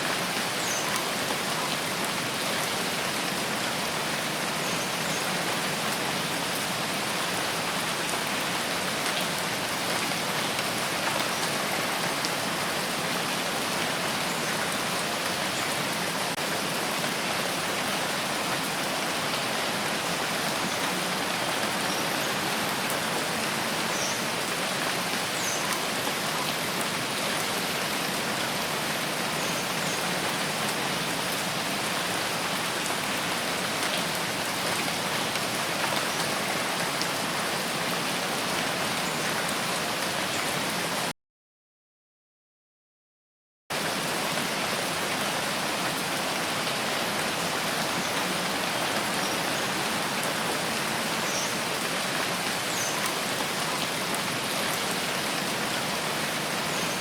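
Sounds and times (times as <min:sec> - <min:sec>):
steady rain falling: 0:00.0 - 0:41.1, 0:43.7 - 0:57.0.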